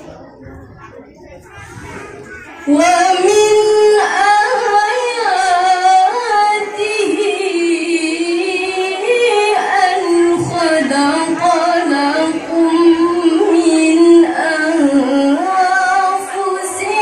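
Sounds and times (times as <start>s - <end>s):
woman reciting melodically into microphone: 2.6s - 17.0s.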